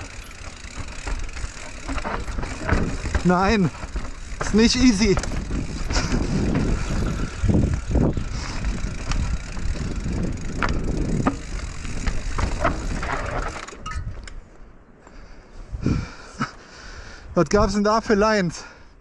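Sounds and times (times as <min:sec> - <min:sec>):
mountain bike on rocky trail: 0:00.0 - 0:16.4.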